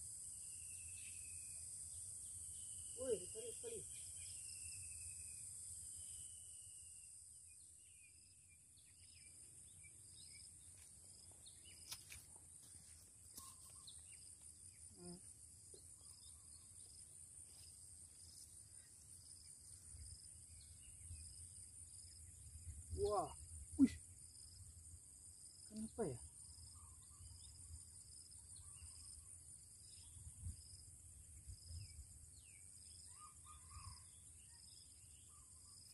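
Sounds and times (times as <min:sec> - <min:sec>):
high-pitched insect chorus: 0:00.0 - 0:35.9.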